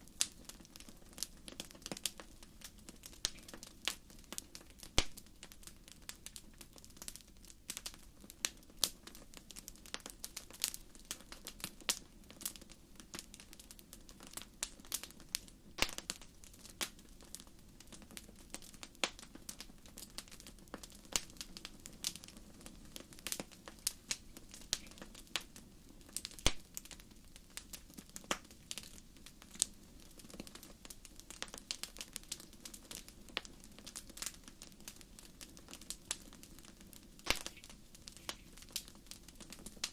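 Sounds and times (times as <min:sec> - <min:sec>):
soft hiss of burning: 0:00.0 - 0:39.9
wood fire crackling: 0:00.0 - 0:39.9.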